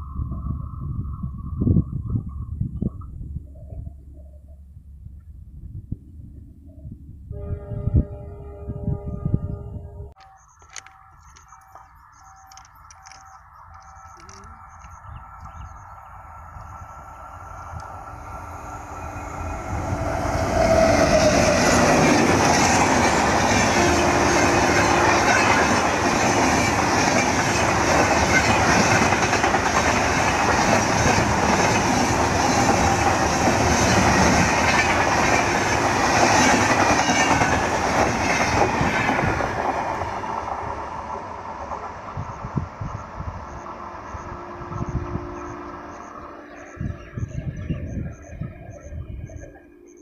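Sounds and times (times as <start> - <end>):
passenger train passing: 0.0 - 2.5, 6.7 - 50.0.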